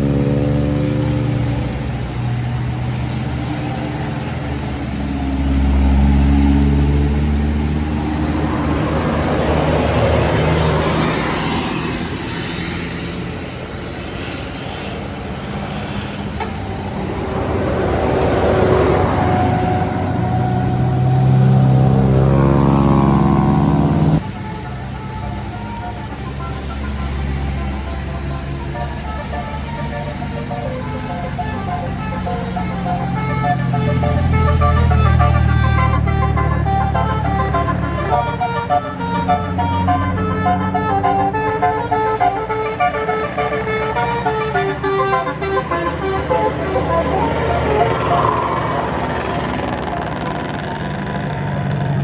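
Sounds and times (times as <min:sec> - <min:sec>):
diesel bus engines under load: 0:00.0 - 0:52.0.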